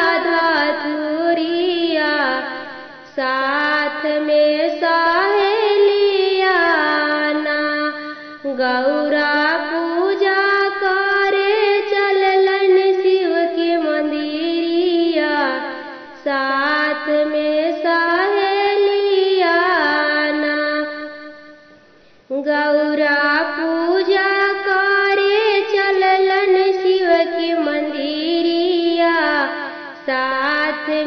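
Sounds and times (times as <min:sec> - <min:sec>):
woman singing folk song: 0:00.0 - 0:21.5, 0:22.3 - 0:31.0.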